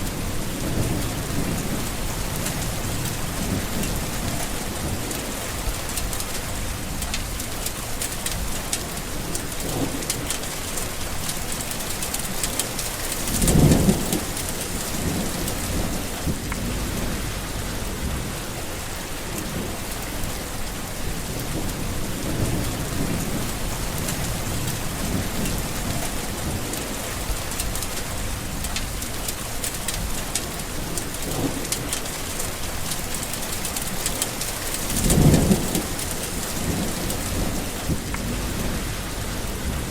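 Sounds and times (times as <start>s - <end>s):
distant thunder rumbling: 0.0s - 11.6s, 12.2s - 39.9s
steady rain falling: 0.0s - 39.9s.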